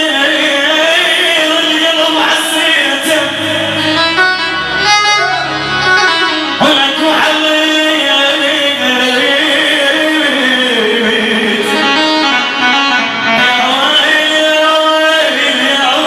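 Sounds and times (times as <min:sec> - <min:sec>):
amplified melody instrument: 0:00.0 - 0:16.0
man singing into a microphone: 0:00.0 - 0:16.0.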